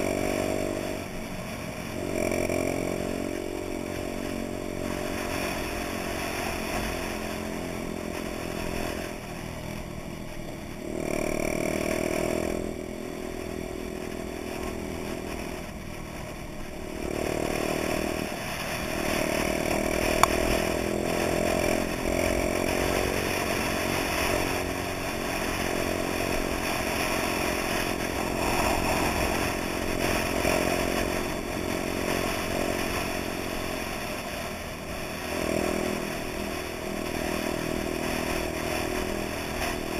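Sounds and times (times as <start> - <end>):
moped engine revving: 0.0 - 39.9
other mopeds running ahead: 0.0 - 39.9.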